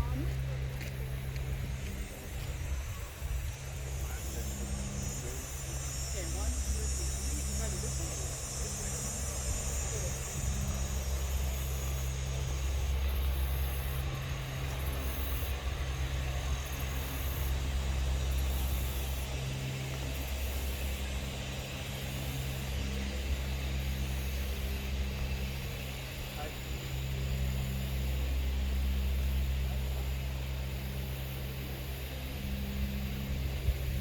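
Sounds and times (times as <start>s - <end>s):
low rumble with hiss: 0.0s - 34.0s.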